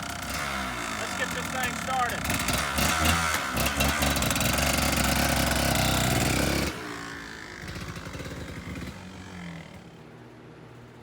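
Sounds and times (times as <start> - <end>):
dirt bike engine running loudly: 0.0 - 10.0.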